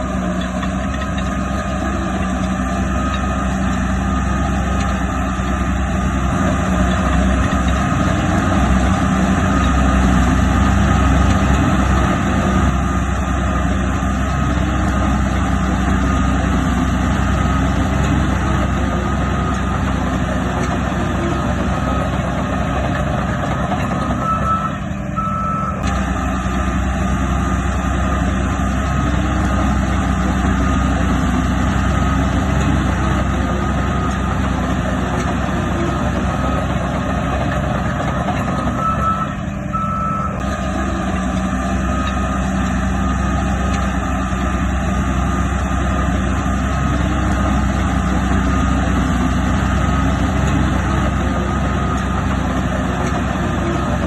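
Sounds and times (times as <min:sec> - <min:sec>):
diesel engine drone: 0:00.0 - 0:54.0
reversing alarm beeping: 0:01.0 - 0:54.0.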